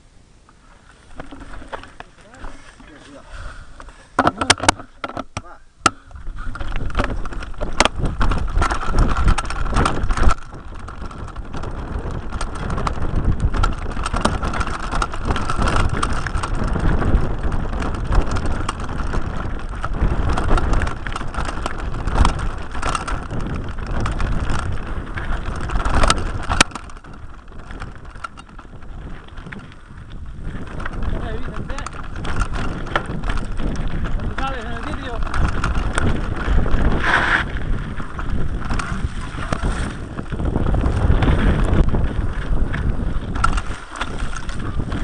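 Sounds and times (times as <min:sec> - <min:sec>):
bike rattling and knocking: 0:01.1 - 0:03.2, 0:04.2 - 0:45.0
rushing noise of riding: 0:06.0 - 0:45.0.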